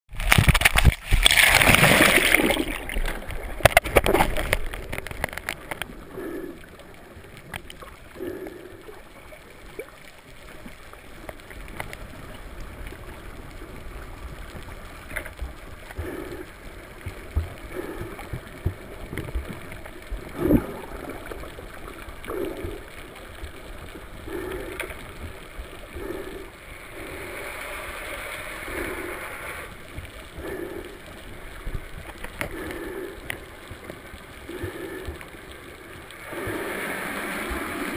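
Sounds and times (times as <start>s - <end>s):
underwater water noise: 0.1s - 37.9s.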